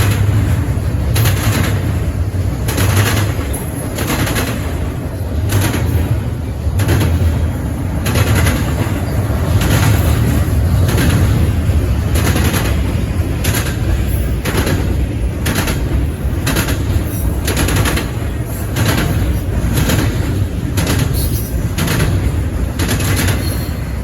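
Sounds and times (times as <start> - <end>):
low train rumble: 0.0 - 24.0
train wheels clacking on rails: 0.0 - 24.0.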